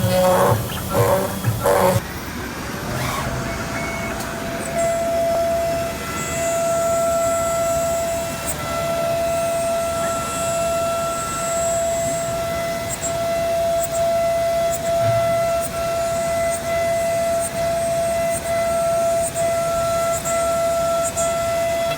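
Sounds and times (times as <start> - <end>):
cutting machine motor whine: 0.0 - 21.9.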